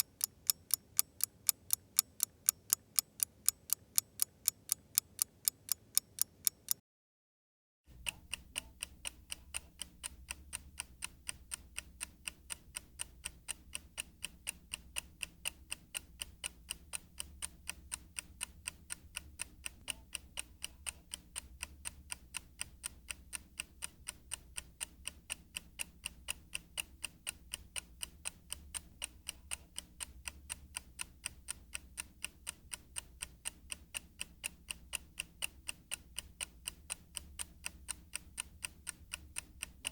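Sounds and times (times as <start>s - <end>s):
clock ticking: 0.0s - 6.8s, 7.9s - 39.9s.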